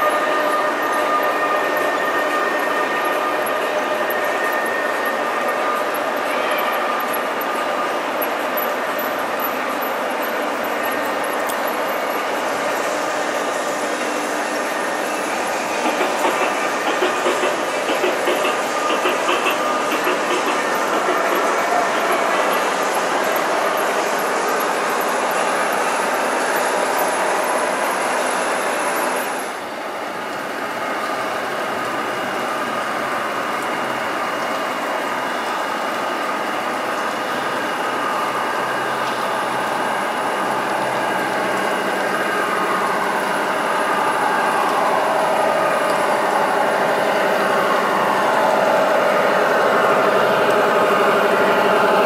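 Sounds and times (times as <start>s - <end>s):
model trains running: 0.0s - 52.0s.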